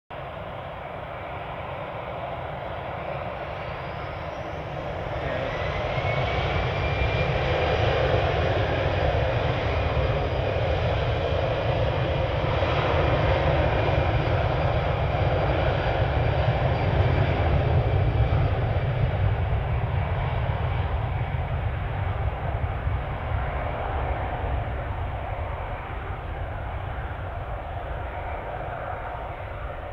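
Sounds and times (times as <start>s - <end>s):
jet engines spooling up: 0.5s - 29.9s.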